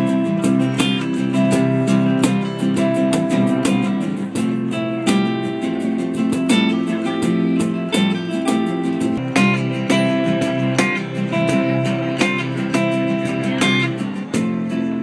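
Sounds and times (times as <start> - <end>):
acoustic guitars strumming: 0.0 - 15.0
cajon beat: 0.0 - 15.0
electric bass: 0.0 - 15.0.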